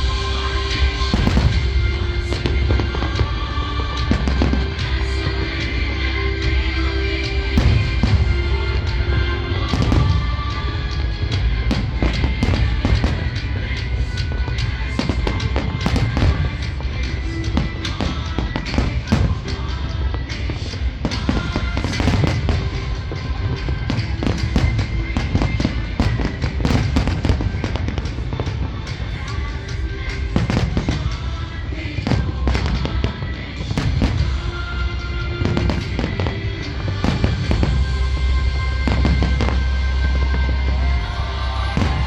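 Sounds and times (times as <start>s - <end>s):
fireworks bursting: 0.0s - 42.0s
music with held tones: 0.0s - 42.0s.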